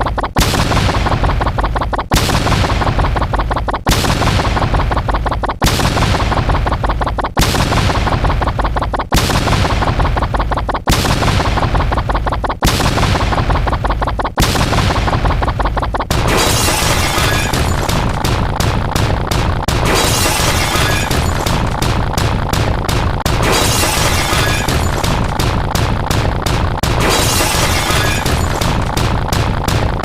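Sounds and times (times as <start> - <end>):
crackling sound effect bursts: 0.0 - 30.0.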